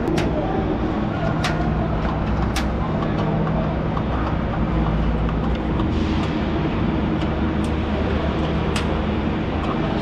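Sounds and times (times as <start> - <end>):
industrial machinery droning: 0.0 - 10.0.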